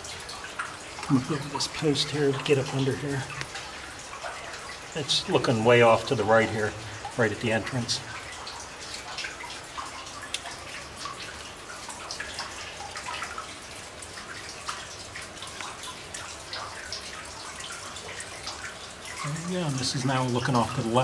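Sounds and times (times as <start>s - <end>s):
faint steady hiss: 0.0s - 21.0s
water dripping into pool: 0.0s - 21.0s.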